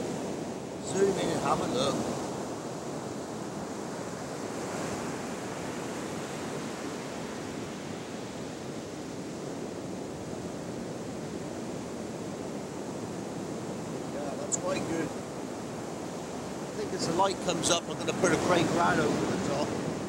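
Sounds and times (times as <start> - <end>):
surf waves rushing: 0.0 - 20.0.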